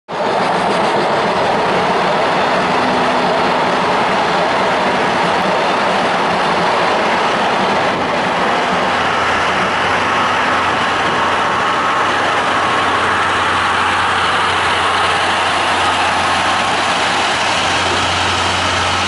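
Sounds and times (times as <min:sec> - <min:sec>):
electric locomotive passing: 0:00.1 - 0:19.0.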